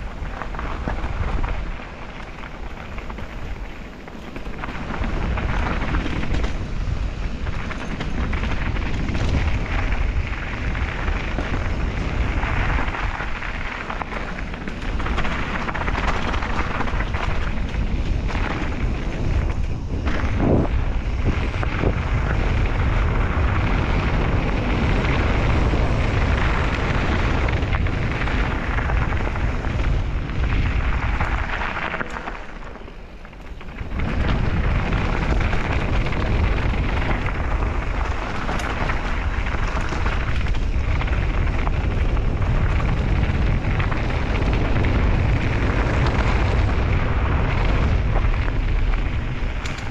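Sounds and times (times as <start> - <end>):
tyres rolling over gravel: 0.0 - 49.9
wind buffeting microphone: 0.0 - 49.9.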